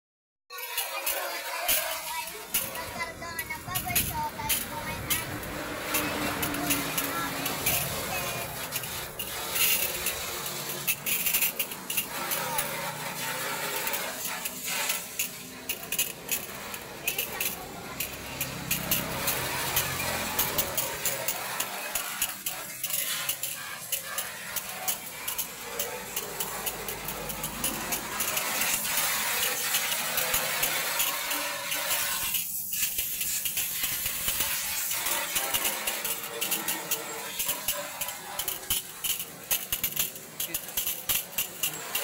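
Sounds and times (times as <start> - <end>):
hose water spraying on metal: 0.5 - 42.0.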